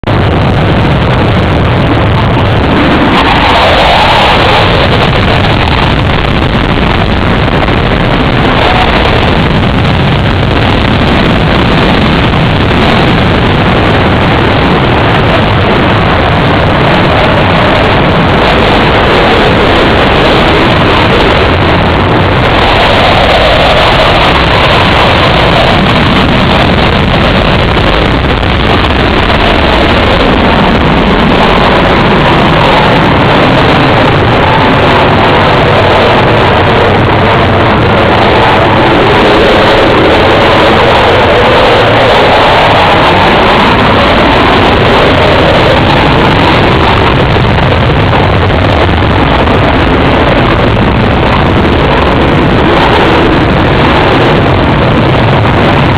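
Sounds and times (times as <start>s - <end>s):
aircraft engine noise: 0.0s - 55.9s.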